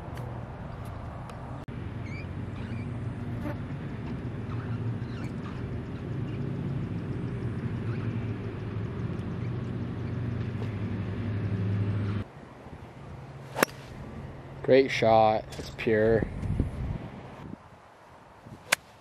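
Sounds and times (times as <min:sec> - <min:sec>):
distant engine drone: 0:00.0 - 0:17.4.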